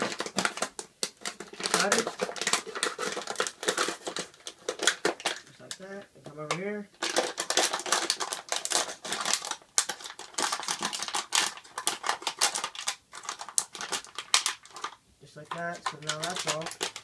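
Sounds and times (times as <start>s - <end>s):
plastic bottle crackling: 0.0s - 17.0s.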